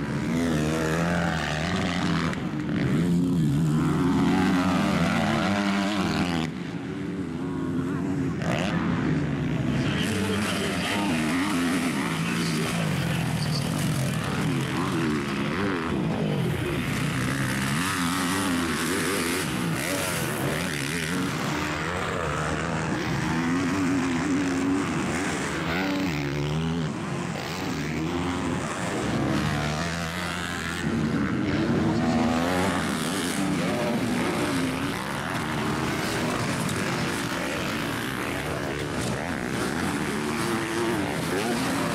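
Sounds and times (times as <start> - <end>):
motocross bike engines revving: 0.0 - 41.9.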